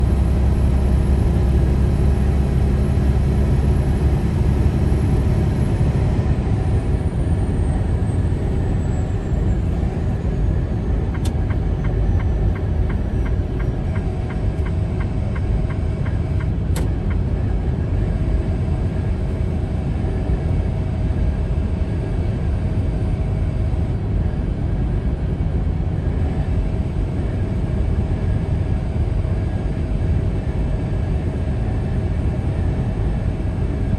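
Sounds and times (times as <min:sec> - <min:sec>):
vehicle road and wind noise: 0:00.0 - 0:33.9.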